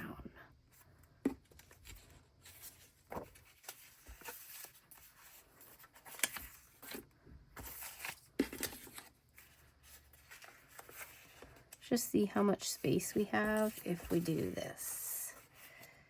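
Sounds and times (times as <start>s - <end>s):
paper pages rustling: 0.8s - 16.0s.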